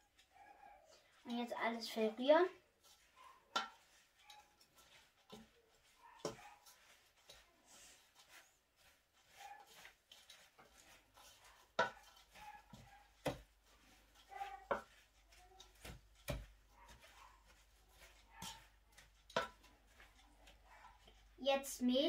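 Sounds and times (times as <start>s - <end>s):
spoon stirring leaves in bowl: 0.0s - 22.0s.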